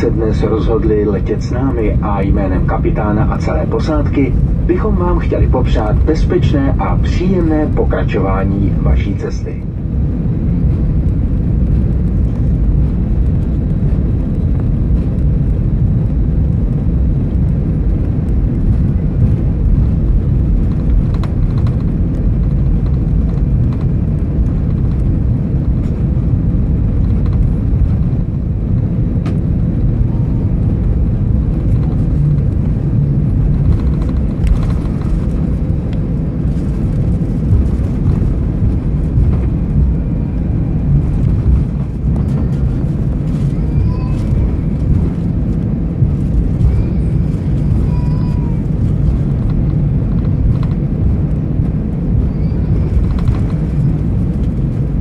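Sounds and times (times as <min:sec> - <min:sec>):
aircraft engines idling rumble: 0:00.0 - 0:55.0.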